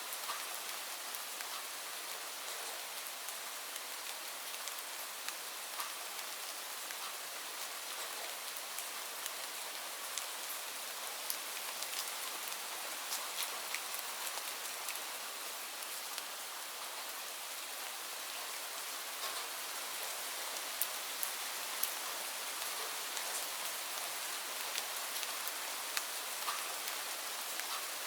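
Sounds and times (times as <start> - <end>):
rain hiss: 0.0 - 28.0
raindrops ticking on a surface: 0.1 - 28.0.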